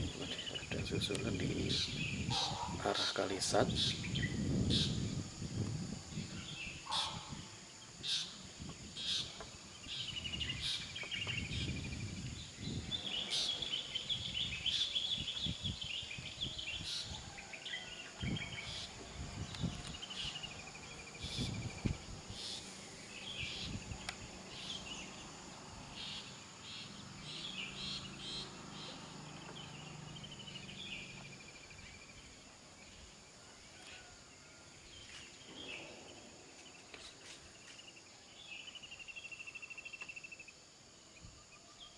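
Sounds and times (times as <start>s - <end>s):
high-pitched insect drone: 0.0s - 41.9s
small birds chirping: 0.0s - 41.9s.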